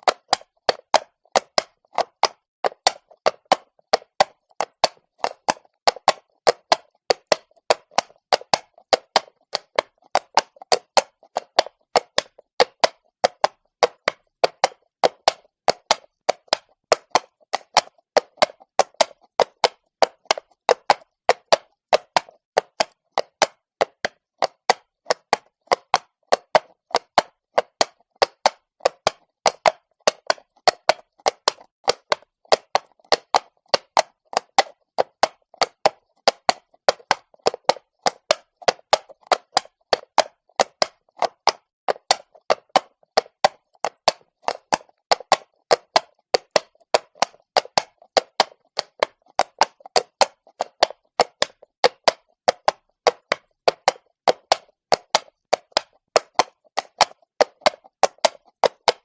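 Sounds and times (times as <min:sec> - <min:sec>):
horse hooves clip-clopping on stone: 0:00.0 - 0:59.0.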